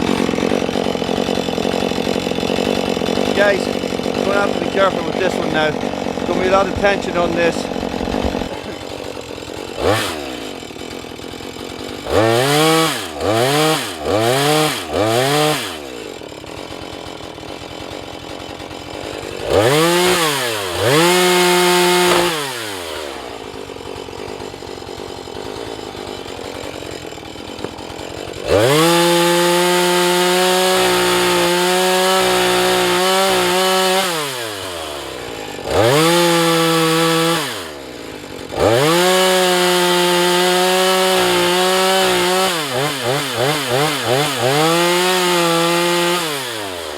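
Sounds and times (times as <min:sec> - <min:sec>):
chainsaw cutting wood: 0:00.0 - 0:46.9
chainsaw revving: 0:00.0 - 0:46.9.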